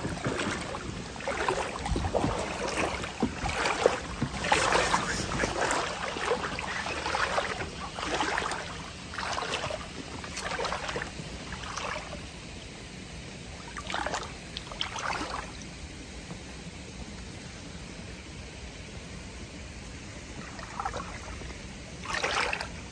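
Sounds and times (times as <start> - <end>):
water splashing from wading: 0.0 - 15.8, 20.2 - 22.9
faint trickle of flowing water: 0.0 - 22.9.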